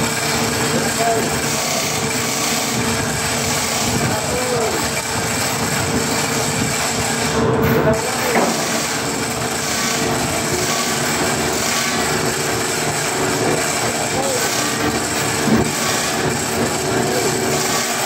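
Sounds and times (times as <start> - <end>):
machinery rasping: 0.0 - 18.0.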